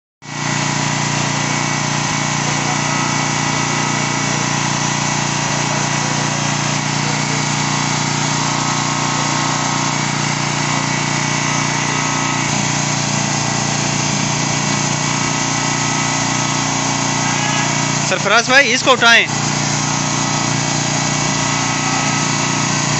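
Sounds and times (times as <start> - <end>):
steady mechanical hum: 0.5 - 22.9.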